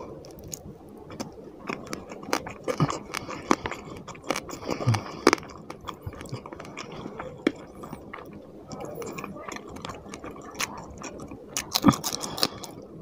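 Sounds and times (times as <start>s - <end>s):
chewing with wet smacking: 0.0s - 13.0s.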